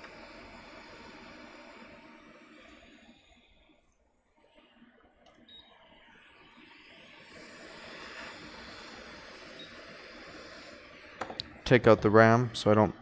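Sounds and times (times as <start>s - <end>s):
hot air rework station hissing: 0.0s - 13.0s.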